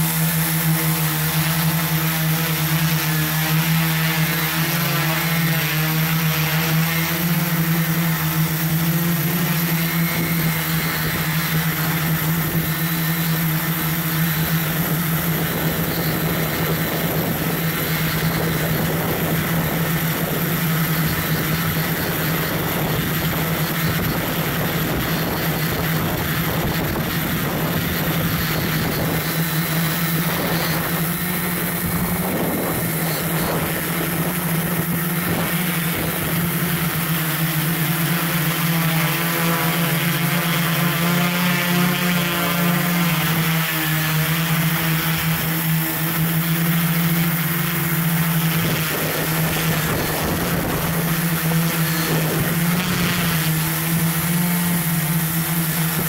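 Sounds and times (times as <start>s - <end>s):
drone propellers humming: 0.0s - 56.0s.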